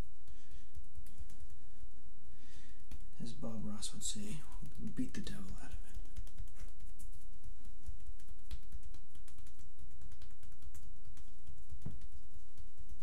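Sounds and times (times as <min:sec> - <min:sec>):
hands slapping bare skin: 0:00.0 - 0:13.0.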